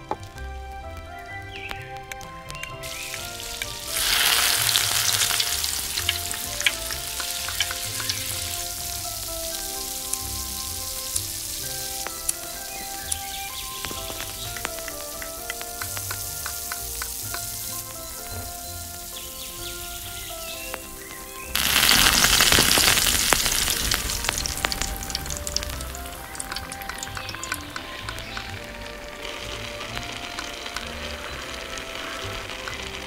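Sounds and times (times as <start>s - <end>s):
light background music: 0.0s - 33.0s
oil sizzling in pan: 2.8s - 33.0s.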